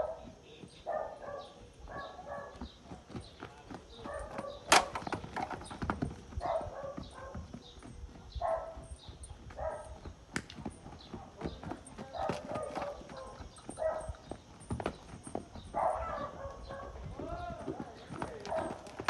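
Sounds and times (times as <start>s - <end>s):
horse cantering on sand: 0.0s - 19.0s.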